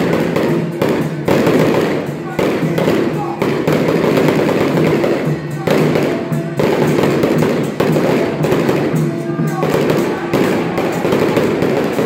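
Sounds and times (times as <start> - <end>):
firecrackers crackling: 0.0 - 12.0
procession music: 0.4 - 12.0.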